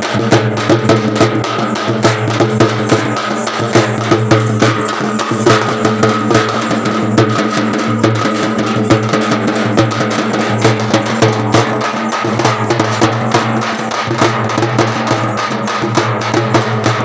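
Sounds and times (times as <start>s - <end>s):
drums beaten fast: 0.0s - 17.0s.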